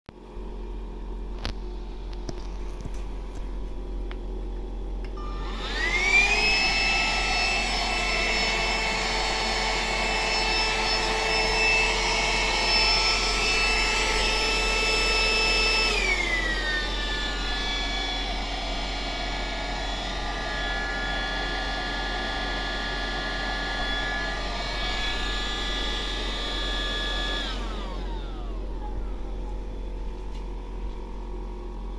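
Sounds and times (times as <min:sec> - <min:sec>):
vacuum cleaner motor whining: 0:05.0 - 0:31.9.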